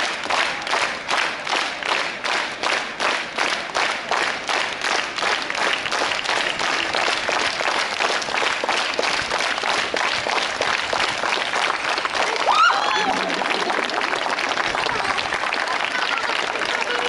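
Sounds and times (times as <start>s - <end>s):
audience clapping in rhythm: 0.0s - 17.0s.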